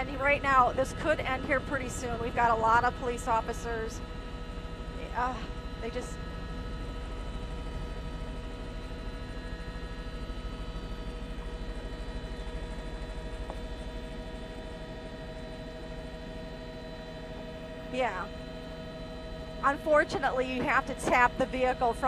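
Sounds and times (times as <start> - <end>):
helicopter engine whine: 0.0 - 22.0
rotor pulsing drone: 0.0 - 22.0.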